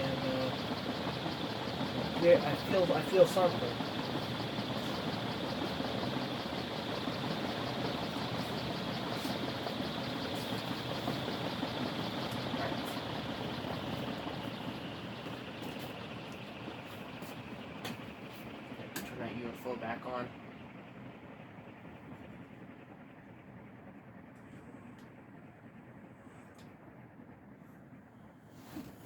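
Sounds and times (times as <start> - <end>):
ceiling fan motor hum: 0.0 - 29.0.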